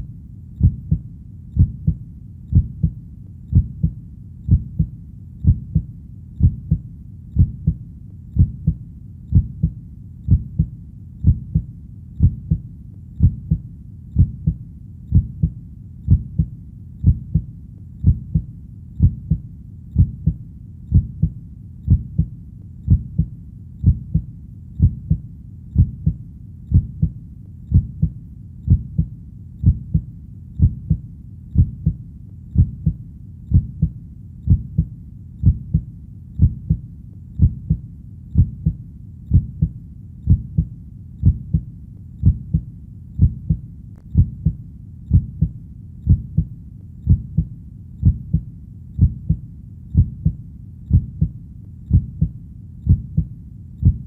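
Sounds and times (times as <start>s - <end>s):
faint background hum: 0.0s - 54.0s
heartbeat thumping: 0.6s - 7.8s, 8.4s - 13.6s, 14.2s - 54.0s.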